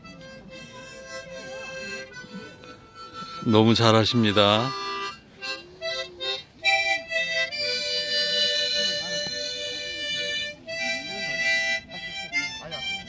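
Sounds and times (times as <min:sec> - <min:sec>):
harmonica melody: 0:00.0 - 0:13.0.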